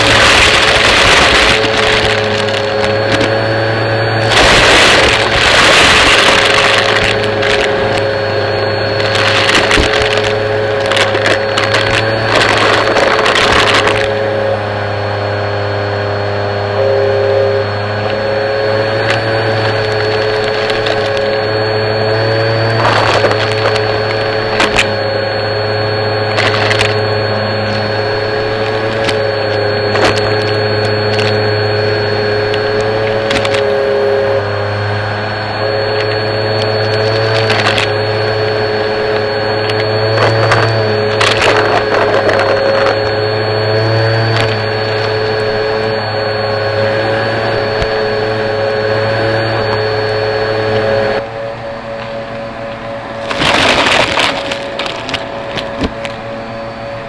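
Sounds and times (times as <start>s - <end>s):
debris rattling in vacuum: 0.0s - 51.2s, 53.0s - 57.0s
vacuum cleaner running: 0.0s - 57.0s.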